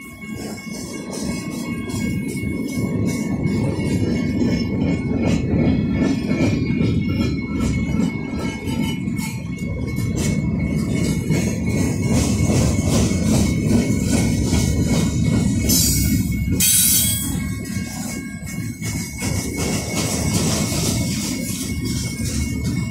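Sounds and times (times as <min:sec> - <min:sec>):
crossing bell ringing: 0:00.0 - 0:22.9
train wheels rumbling on rail: 0:00.0 - 0:22.9.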